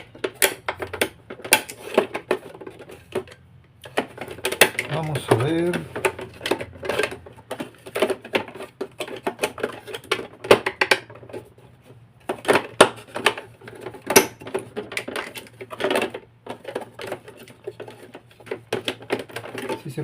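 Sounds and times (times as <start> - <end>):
plastic parts clicking and knocking: 0.0 - 20.0.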